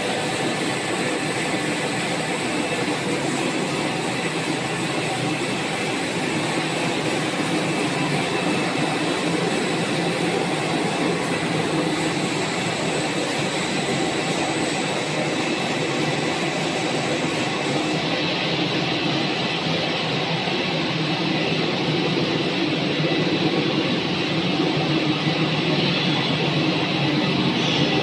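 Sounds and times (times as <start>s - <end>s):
factory machinery roar: 0.0s - 28.0s
high-pitched machine whines: 0.0s - 28.0s.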